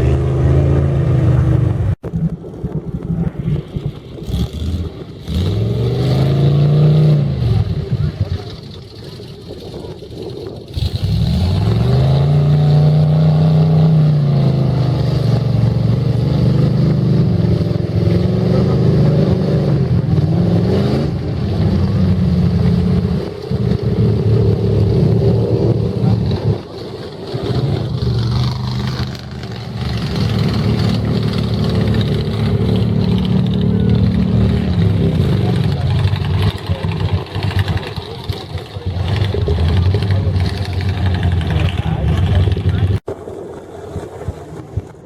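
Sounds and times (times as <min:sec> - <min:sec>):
truck engine revving hard: 0:00.0 - 0:02.0, 0:03.5 - 0:08.7, 0:10.7 - 0:43.0.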